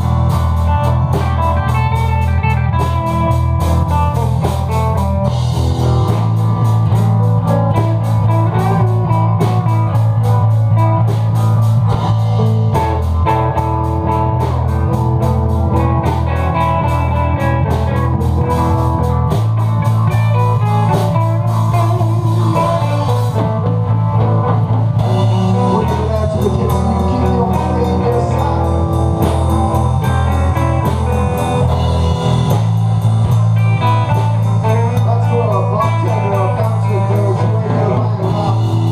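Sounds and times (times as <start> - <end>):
bass guitar notes: 0.0 - 38.9
blues band playing: 0.0 - 38.9.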